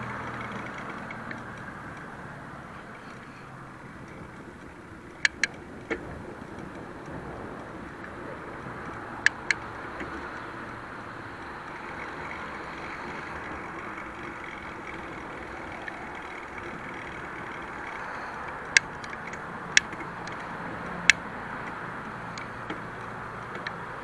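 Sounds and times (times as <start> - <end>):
sharp clicks: 0.0 - 2.2, 2.8 - 24.0.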